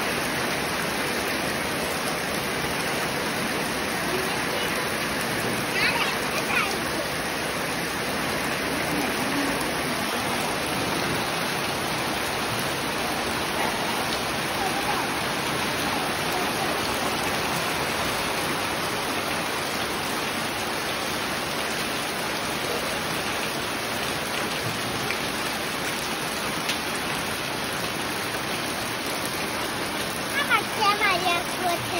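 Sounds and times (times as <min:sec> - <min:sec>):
rain on trees and ground: 0:00.0 - 0:31.9.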